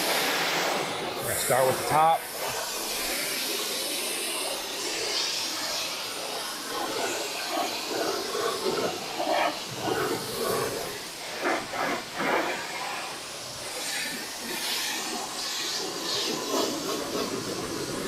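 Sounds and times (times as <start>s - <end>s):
pressure washer spray hissing: 0.0s - 18.0s.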